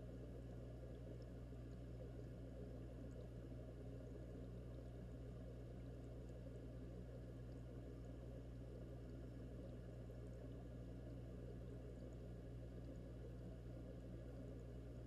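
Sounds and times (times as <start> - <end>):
underwater bubbling hum: 0.0 - 15.0
faint ticks: 0.1 - 15.0.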